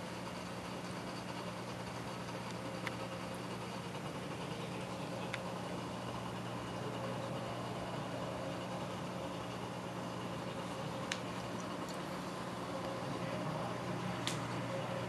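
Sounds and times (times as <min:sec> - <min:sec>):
aquarium pumps humming: 0:00.0 - 0:15.0.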